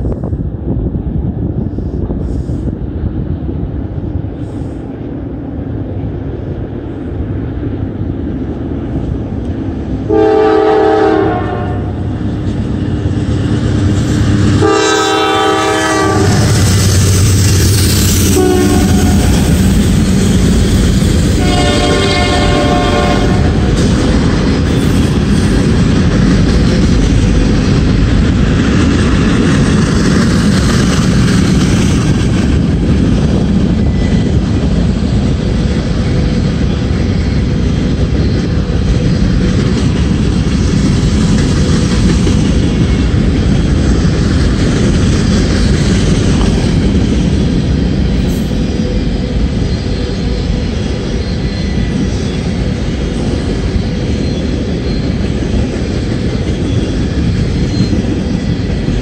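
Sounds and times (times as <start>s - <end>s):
diesel locomotive passing: 0.0s - 59.0s
steel wheels rumbling on rail: 0.0s - 59.0s.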